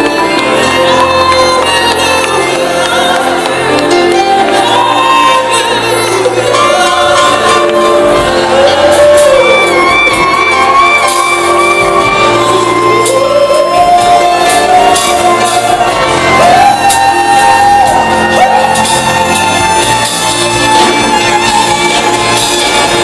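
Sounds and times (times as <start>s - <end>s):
live band playing: 0.0s - 23.0s
saxophone: 0.0s - 23.0s
singers over a band: 0.0s - 23.0s.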